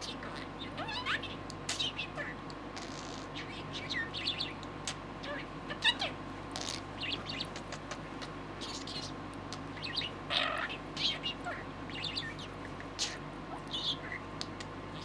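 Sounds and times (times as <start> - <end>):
budgerigar chattering: 0.0 - 15.0.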